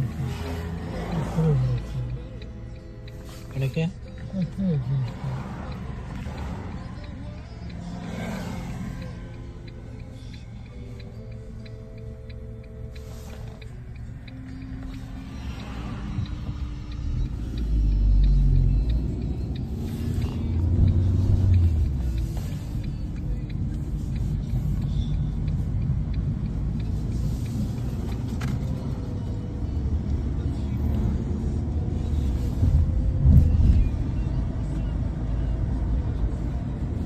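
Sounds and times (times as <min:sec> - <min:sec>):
car driving low rumble: 0:00.0 - 0:37.0.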